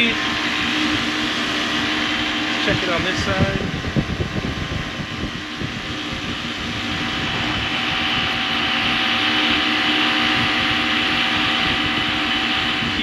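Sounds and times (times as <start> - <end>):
broad rushing noise: 0.0 - 13.0
refrigeration unit humming: 0.0 - 13.0.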